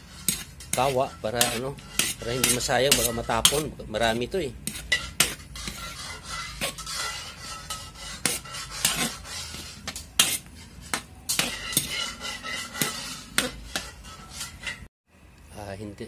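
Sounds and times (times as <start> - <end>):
metal spatula scraping a wok: 0.0 - 14.9.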